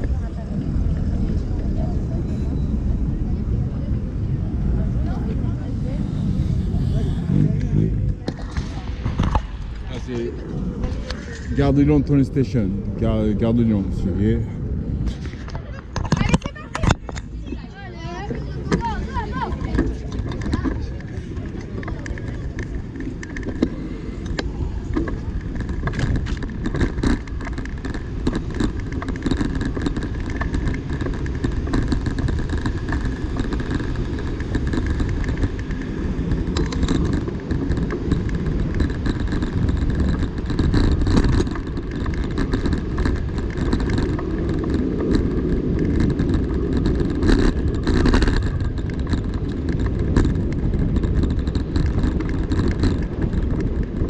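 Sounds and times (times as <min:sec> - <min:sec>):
bicycle wheels rumbling on asphalt: 0:00.0 - 0:54.0
wheels clattering over bumps: 0:00.0 - 0:54.0
wind buffeting microphone: 0:00.0 - 0:54.0.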